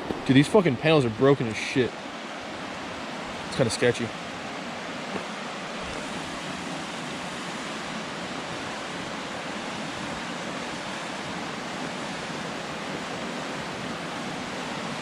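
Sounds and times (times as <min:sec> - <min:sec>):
rushing creek water: 0:00.0 - 0:15.0.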